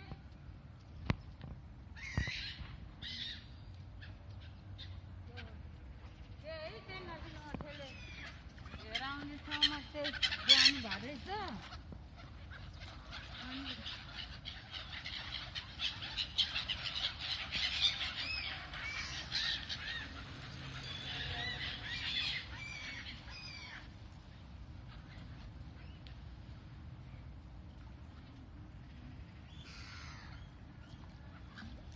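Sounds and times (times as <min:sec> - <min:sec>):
waterbirds squawking: 0:02.0 - 0:27.4, 0:29.2 - 0:31.9.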